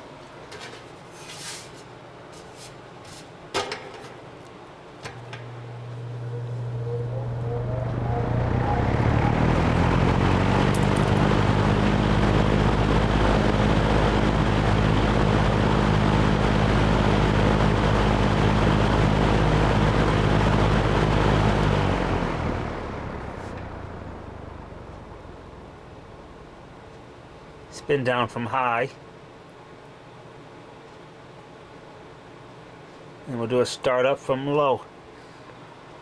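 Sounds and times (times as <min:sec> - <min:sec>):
box fan running: 0:00.0 - 0:36.0.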